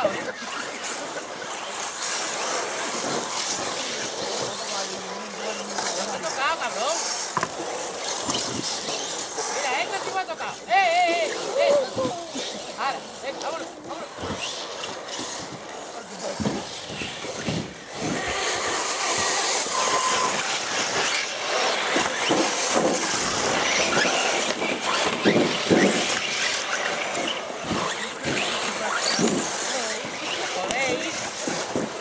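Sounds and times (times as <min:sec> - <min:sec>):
rc car motors whining: 0:00.0 - 0:32.0.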